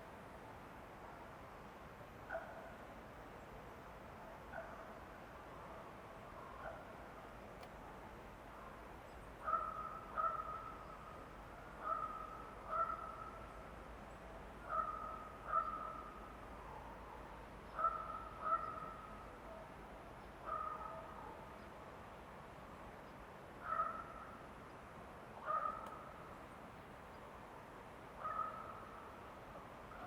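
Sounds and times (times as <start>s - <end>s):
faint forest hiss: 0.0s - 30.0s.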